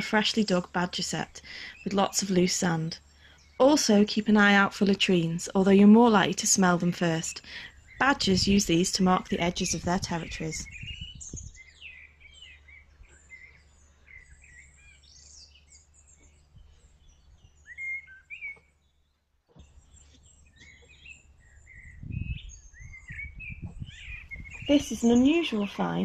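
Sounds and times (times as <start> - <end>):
small birds singing: 0.0 - 26.0.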